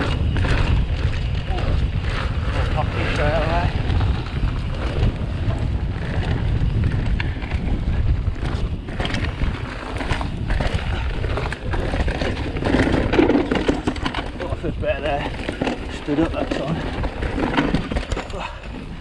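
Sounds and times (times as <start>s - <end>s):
bike clicking and knocking: 0.0s - 19.0s
bike tyres rolling on dirt: 0.0s - 19.0s
wind buffeting microphone: 0.0s - 19.0s.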